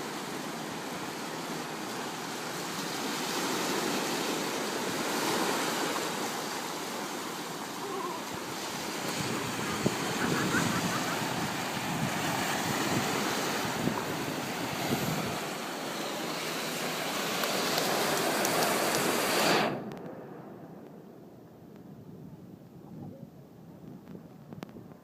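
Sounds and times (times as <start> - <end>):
ocean surf: 0.0 - 22.5
wind buffeting microphone: 2.9 - 25.0.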